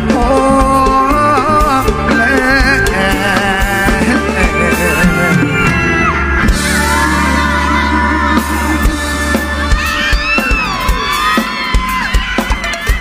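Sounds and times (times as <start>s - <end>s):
live band playing upbeat song: 0.0s - 13.0s
person singing: 0.0s - 13.0s.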